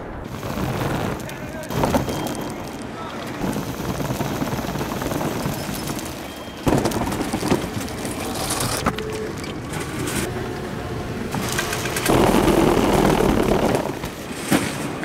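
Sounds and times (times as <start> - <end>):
conveyor belt rumbling: 0.0 - 15.0.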